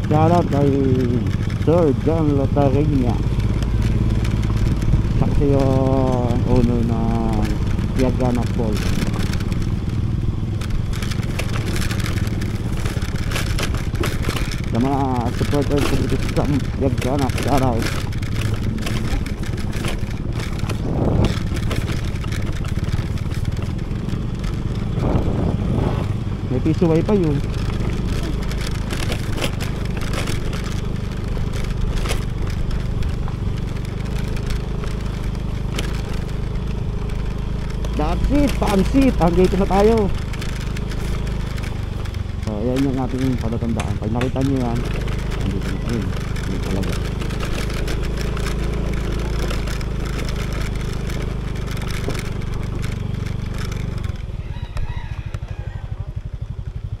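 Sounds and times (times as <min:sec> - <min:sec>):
stones knocking and rattling: 0:00.0 - 0:25.3, 0:26.1 - 0:54.9
tyres crunching on gravel: 0:00.0 - 0:56.6
scooter engine running: 0:00.0 - 0:57.0.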